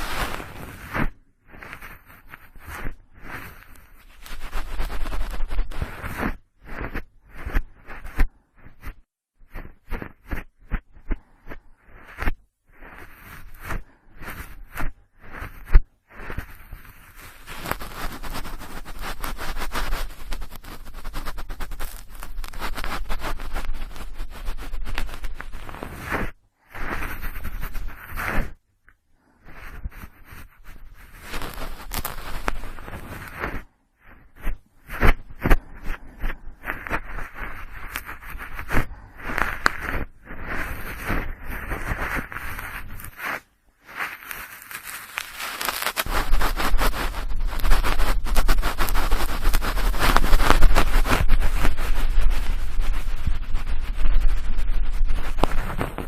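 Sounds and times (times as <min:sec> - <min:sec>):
cotton swab rubbing microphone: 0:00.0 - 0:56.0.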